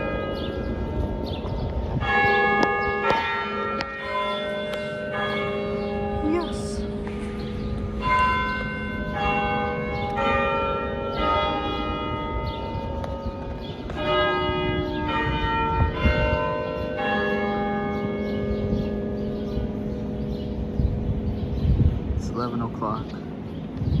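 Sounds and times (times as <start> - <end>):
church bells chiming: 0.0 - 23.6.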